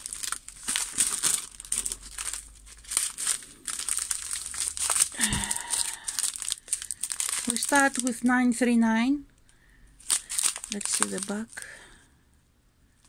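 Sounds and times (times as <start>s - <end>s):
plastic bags crinkling: 0.0s - 8.7s, 9.4s - 12.0s.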